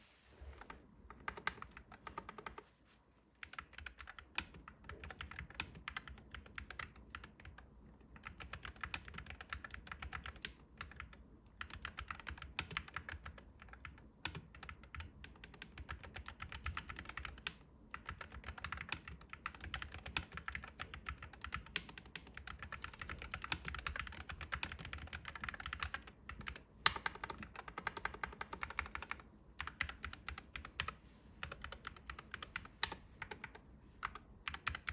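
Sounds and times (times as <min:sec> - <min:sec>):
fast keyboard typing: 0:00.6 - 0:02.6, 0:03.4 - 0:34.9.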